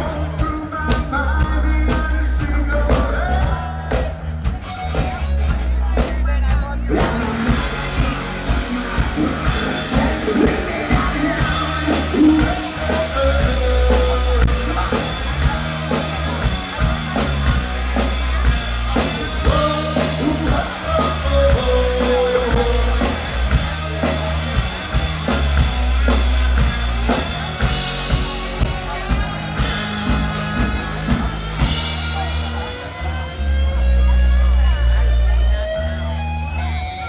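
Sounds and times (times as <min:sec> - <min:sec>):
drum kit: 0:00.0 - 0:35.2
bass guitar: 0:00.0 - 0:37.0
electric guitars: 0:00.0 - 0:37.0.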